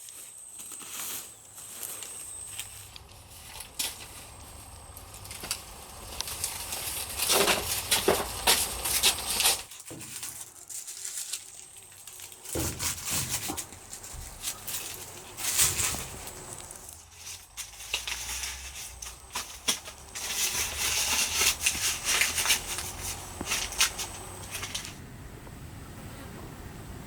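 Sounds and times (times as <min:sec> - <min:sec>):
dry plant material rustling: 0:00.0 - 0:25.0.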